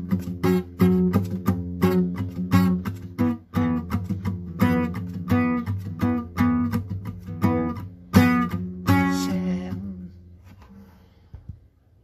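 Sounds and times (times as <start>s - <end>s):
acoustic guitar strumming: 0.0s - 11.1s.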